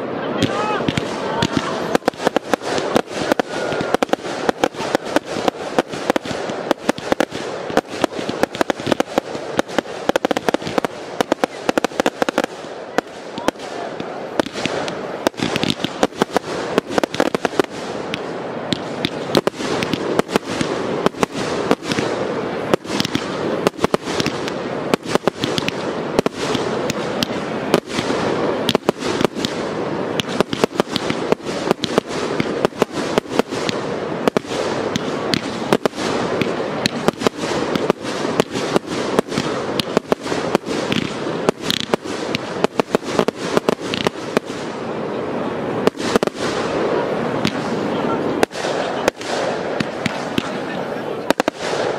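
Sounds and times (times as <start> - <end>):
continuous rushing noise: 0.0 - 51.9
fireworks shells bursting: 0.4 - 44.9, 45.7 - 51.9.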